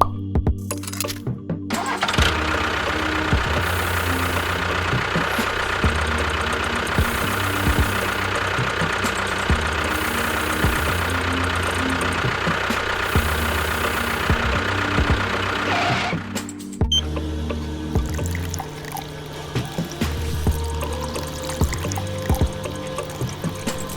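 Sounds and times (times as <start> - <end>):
small engine knocking: 1.8 - 17.2, 17.9 - 23.9.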